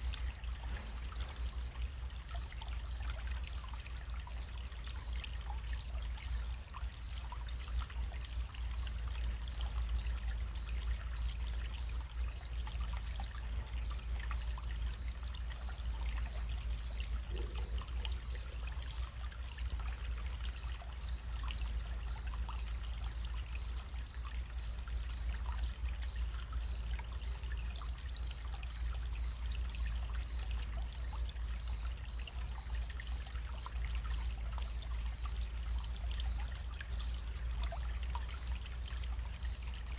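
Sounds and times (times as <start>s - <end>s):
stream water trickling and splashing: 0.0s - 39.9s.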